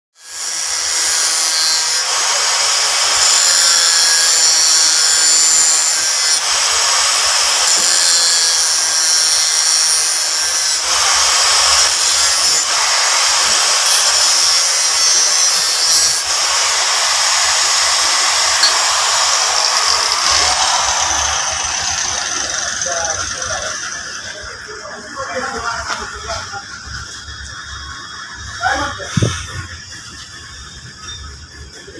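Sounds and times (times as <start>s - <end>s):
angle grinder cutting metal: 0.2s - 31.9s.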